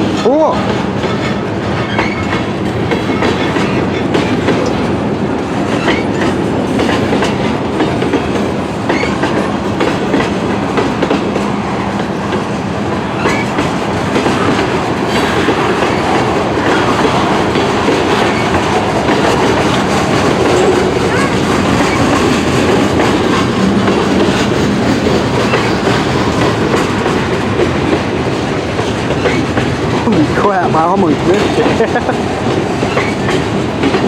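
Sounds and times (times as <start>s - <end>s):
freight train wheels rolling on rails: 0.0s - 34.0s.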